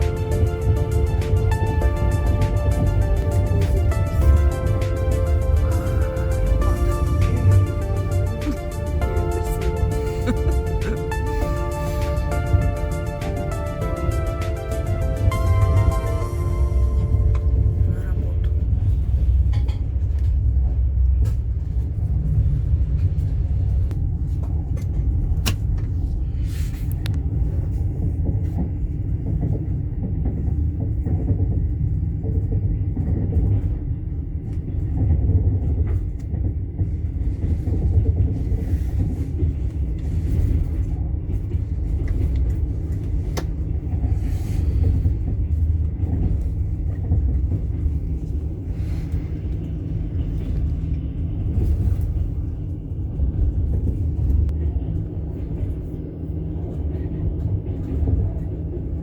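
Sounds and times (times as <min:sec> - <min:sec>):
train rumbling from inside carriage: 0:00.0 - 0:59.0.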